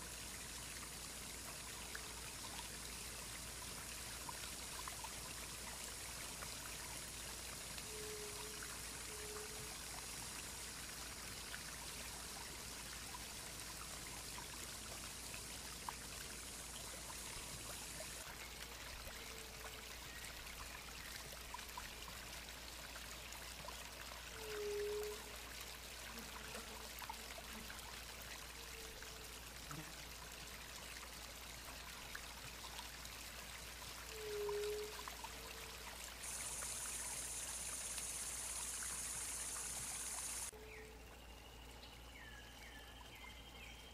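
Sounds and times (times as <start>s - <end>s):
high steady hiss: 0.0s - 42.3s
stream water trickling: 0.0s - 43.9s.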